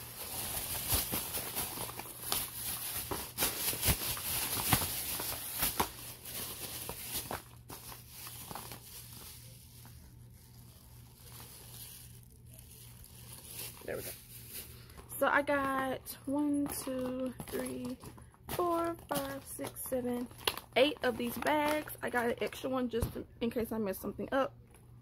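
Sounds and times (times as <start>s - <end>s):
plastic bag rustling: 0.0s - 15.8s, 16.6s - 22.6s.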